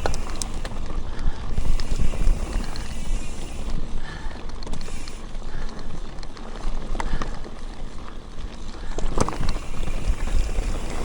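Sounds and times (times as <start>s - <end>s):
bike clicks and knocks: 0.0s - 11.0s
bike tyres rumbling on trail: 0.0s - 11.0s.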